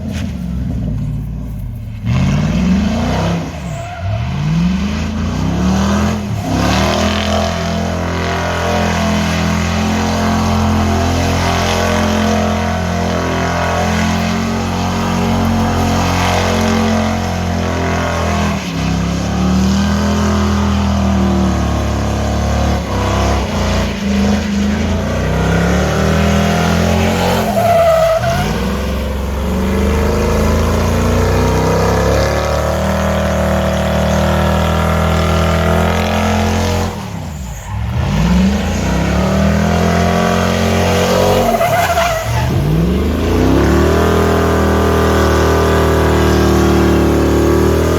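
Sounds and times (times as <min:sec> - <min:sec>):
truck engine revving: 0:00.0 - 0:47.9
tyres squealing on pavement: 0:00.0 - 0:47.9.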